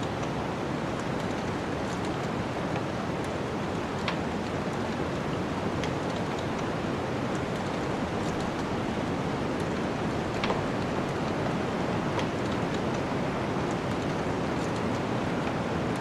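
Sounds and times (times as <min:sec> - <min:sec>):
wood fire crackling: 0:00.1 - 0:16.0.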